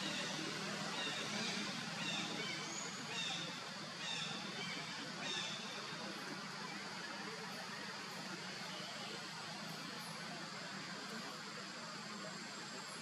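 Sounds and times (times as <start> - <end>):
steady forest hiss: 0.0 - 13.0.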